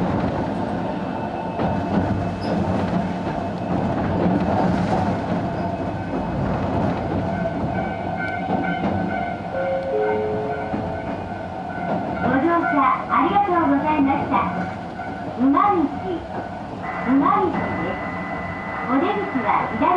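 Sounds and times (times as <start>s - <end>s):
train wheels rumbling: 0.0s - 19.9s.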